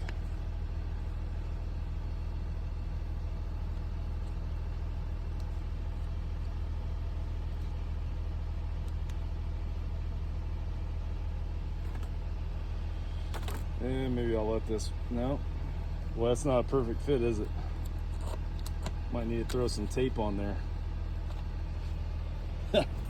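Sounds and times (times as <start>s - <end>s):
engine idling drone: 0.0s - 23.0s.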